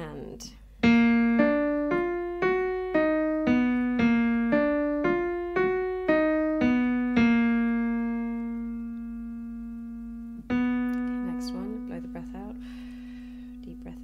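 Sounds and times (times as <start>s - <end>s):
piano scale notes: 0.7s - 14.0s
held low piano note: 0.8s - 14.0s.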